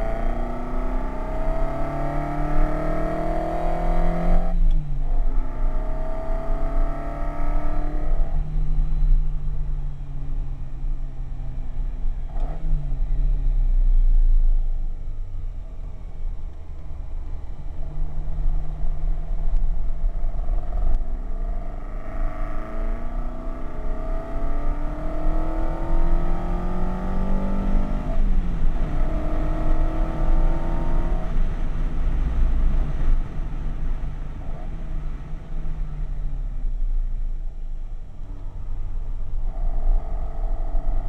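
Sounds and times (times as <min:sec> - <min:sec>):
car engine accelerating: 0:00.0 - 0:10.4, 0:11.2 - 0:41.0
road and wind noise: 0:00.0 - 0:41.0.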